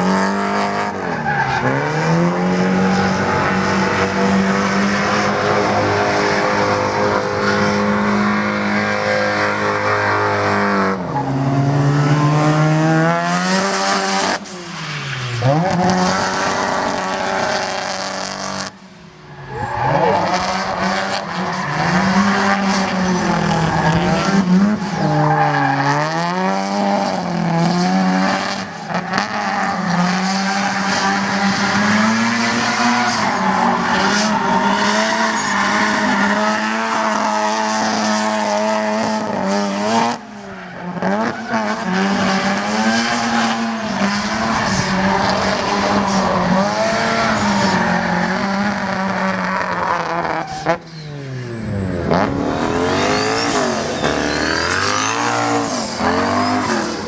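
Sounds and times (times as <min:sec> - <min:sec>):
car engine revving: 0:00.0 - 0:18.8, 0:19.5 - 0:40.4, 0:41.0 - 0:57.0.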